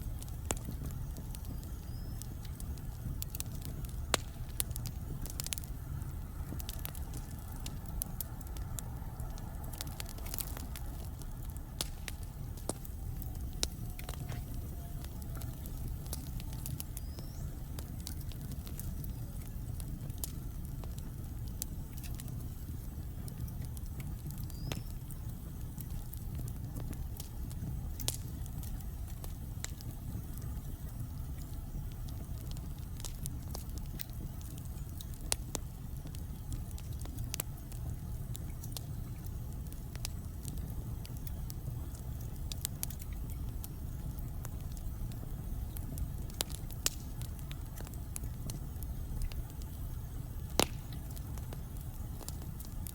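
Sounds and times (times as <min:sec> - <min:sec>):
fire rumbling: 0:00.0 - 0:52.9
high whistles from burning wood: 0:00.0 - 0:52.9
wood crackling and popping: 0:00.0 - 0:52.9.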